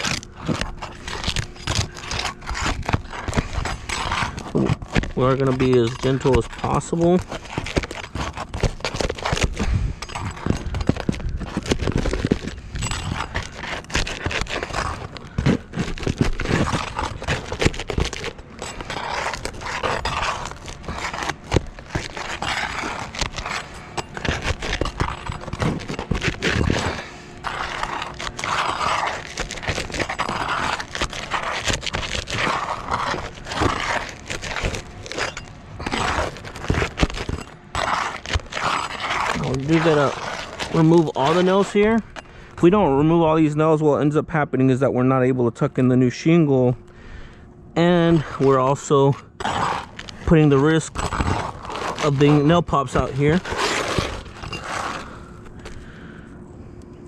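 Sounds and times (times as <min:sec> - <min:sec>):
metal bar scraping roof shingles: 0:00.0 - 0:42.1, 0:47.9 - 0:55.2.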